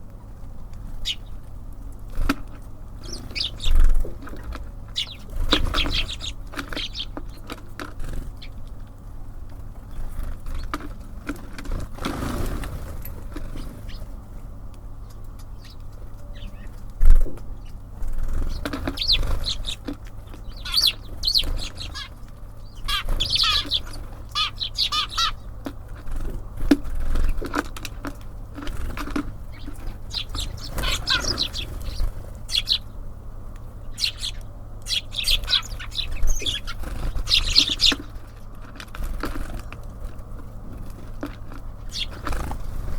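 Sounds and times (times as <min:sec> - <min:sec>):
small birds chirping: 0:00.0 - 0:42.9
wing flutters: 0:02.1 - 0:08.8, 0:09.8 - 0:14.3, 0:15.1 - 0:33.0, 0:33.9 - 0:42.9.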